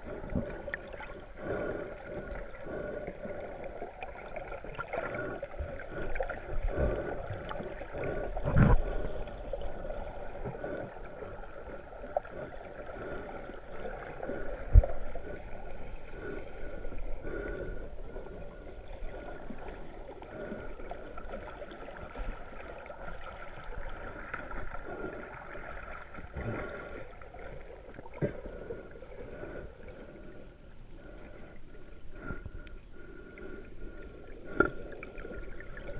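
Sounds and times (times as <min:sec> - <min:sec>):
underwater seawater sloshing over rocks: 0:00.0 - 0:29.7.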